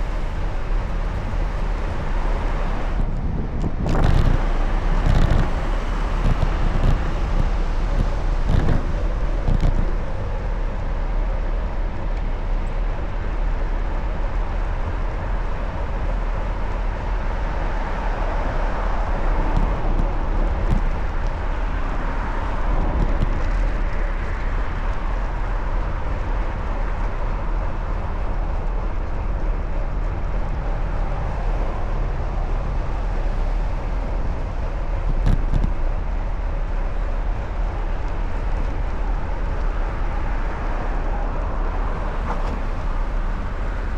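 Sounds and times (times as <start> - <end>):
road noise: 0.0 - 43.9
traffic noise: 0.0 - 43.9
wind rumble on microphone: 0.0 - 43.9.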